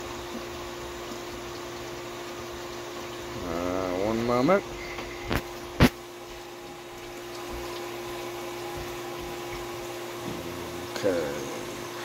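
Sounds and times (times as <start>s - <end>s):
hose water running into pit: 0.0s - 12.0s.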